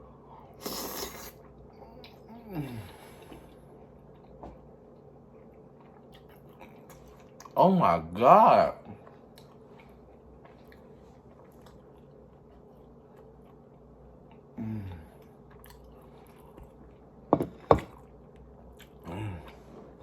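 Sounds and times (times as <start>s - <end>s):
close chewing of food: 0.5s - 7.6s, 8.8s - 20.0s.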